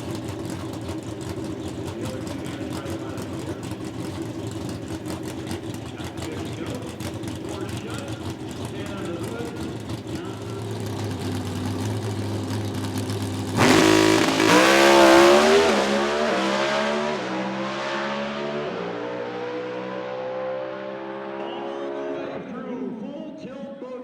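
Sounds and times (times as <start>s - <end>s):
drag racing car engine: 0.0s - 23.0s.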